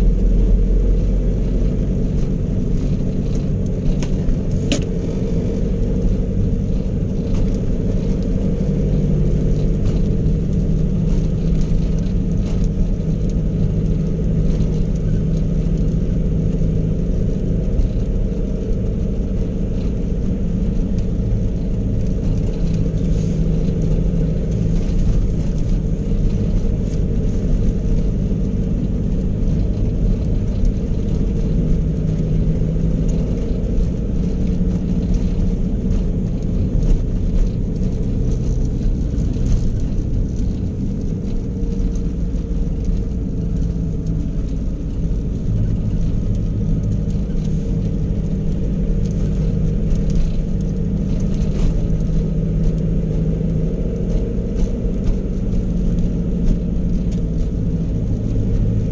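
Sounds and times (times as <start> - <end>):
road rumble: 0.0 - 58.9
vehicle engine hum: 0.0 - 58.9.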